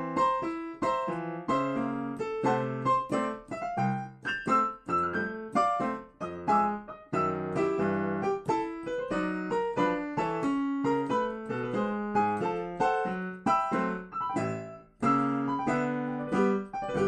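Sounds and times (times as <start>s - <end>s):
ragtime on electronic keyboard: 0.0s - 17.0s.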